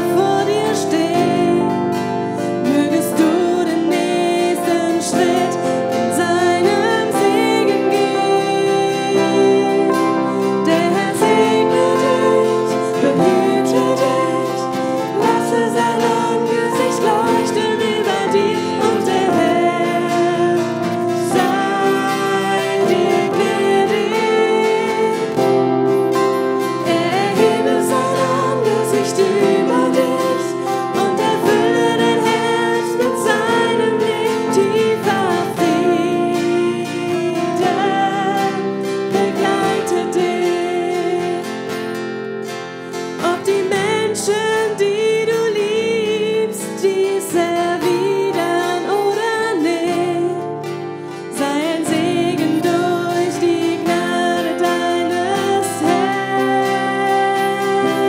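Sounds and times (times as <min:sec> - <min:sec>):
acoustic guitars: 0:00.0 - 0:58.0
woman singing into a microphone: 0:00.0 - 0:58.0.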